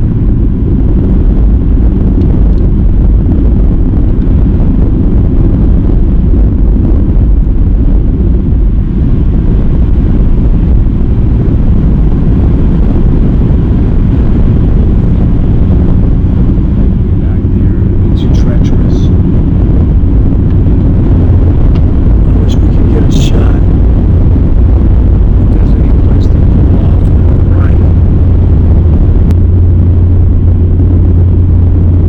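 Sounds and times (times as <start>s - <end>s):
car engine and road noise: 0.0s - 32.0s
wind on microphone: 0.0s - 32.0s.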